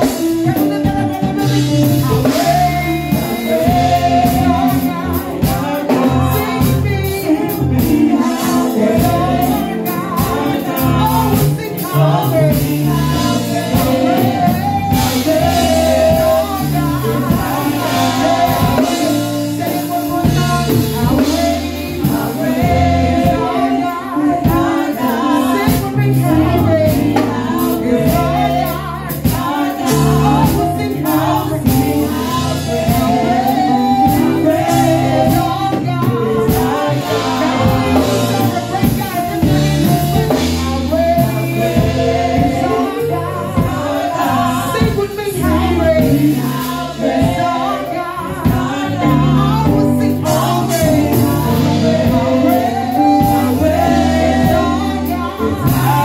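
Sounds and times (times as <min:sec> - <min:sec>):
drum kit: 0:00.0 - 0:56.0
second woman singing: 0:00.0 - 0:56.0
woman singing into microphone: 0:00.0 - 0:56.0.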